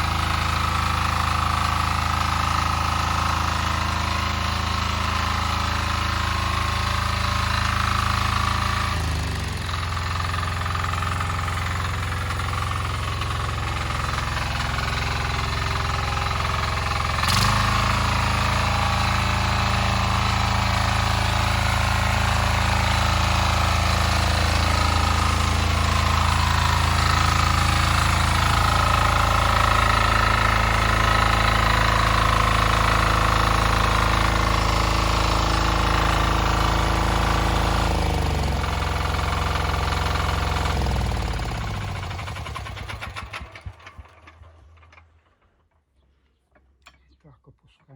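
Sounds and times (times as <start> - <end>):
diesel tractor engine running: 0.0 - 45.8.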